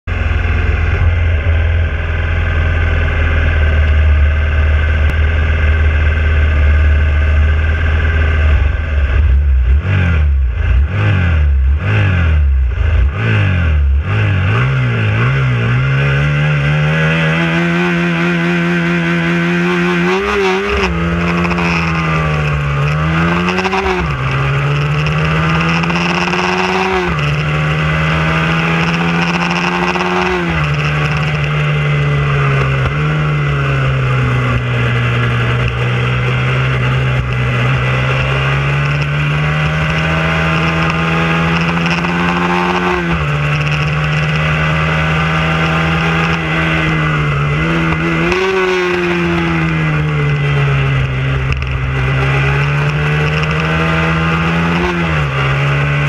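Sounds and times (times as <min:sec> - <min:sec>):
motorcycle engine revving: 0:00.0 - 0:56.0
other motorcycle engines: 0:00.0 - 0:56.0.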